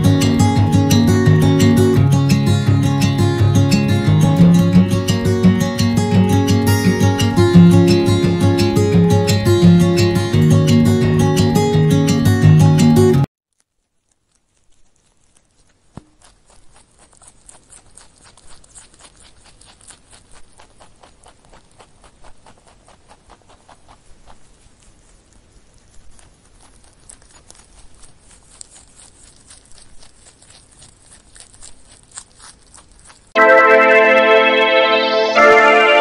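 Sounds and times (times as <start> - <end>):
rabbit chewing vegetables: 0.0 - 12.2, 13.5 - 33.4.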